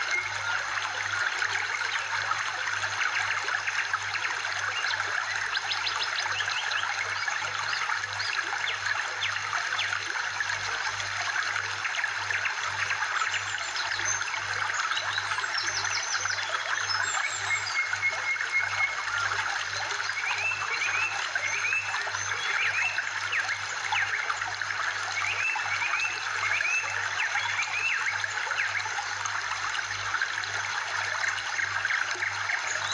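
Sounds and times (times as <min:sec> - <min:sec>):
trickling water: 0:00.0 - 0:32.9.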